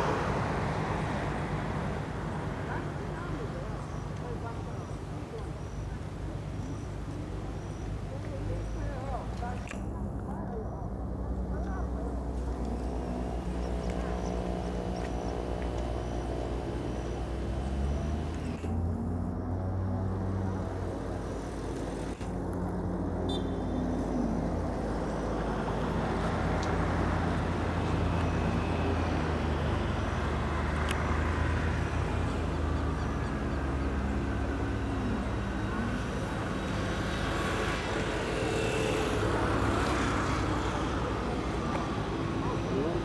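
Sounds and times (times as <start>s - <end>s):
jet engines rumbling and hissing: 0.0s - 43.0s.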